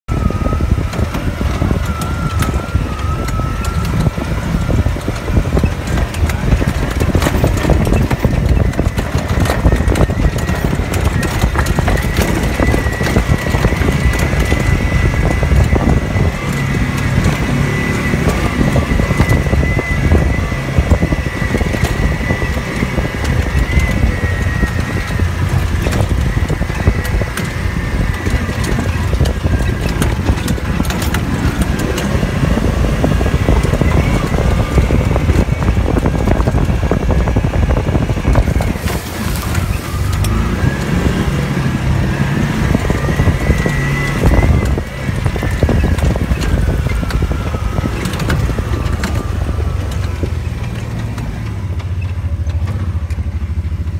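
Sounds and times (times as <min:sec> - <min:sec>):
vehicle engine drone: 0:00.0 - 0:53.9
rattles and knocks from bumps: 0:00.1 - 0:53.9.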